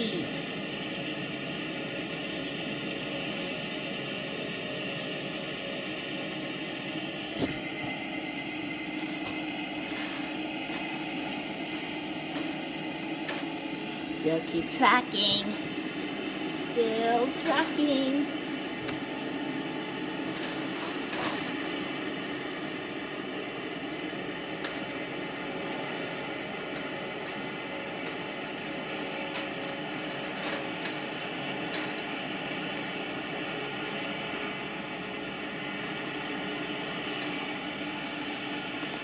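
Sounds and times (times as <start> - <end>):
combine harvester drone: 0.0 - 39.0.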